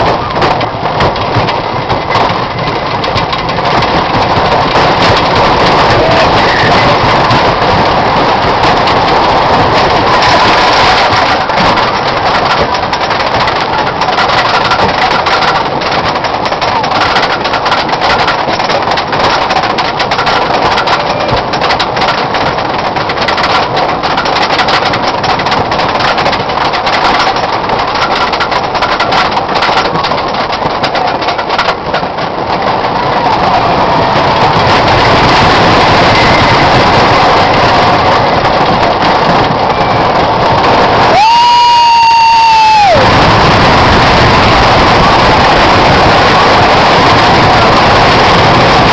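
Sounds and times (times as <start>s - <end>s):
roller coaster rumbling on track: 0.0s - 48.9s.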